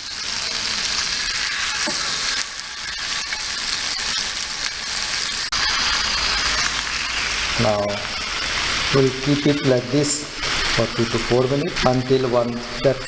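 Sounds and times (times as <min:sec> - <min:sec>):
food sizzling in butter: 0:00.0 - 0:13.0.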